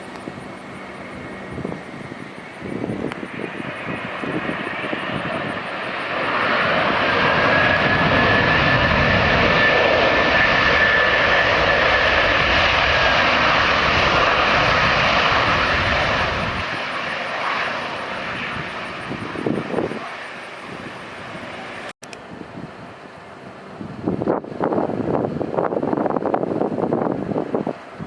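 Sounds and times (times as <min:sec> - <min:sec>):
jet airliner engines passing: 0:00.0 - 0:28.0.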